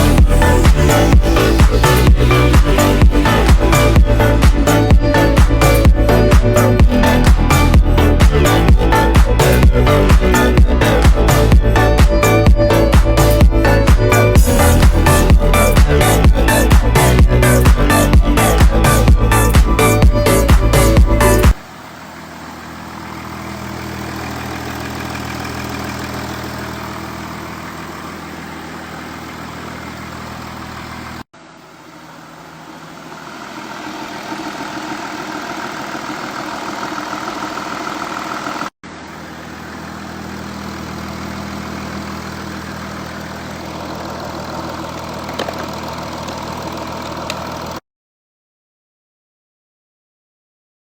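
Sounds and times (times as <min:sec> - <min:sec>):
car engine idling: 0:00.0 - 0:47.8.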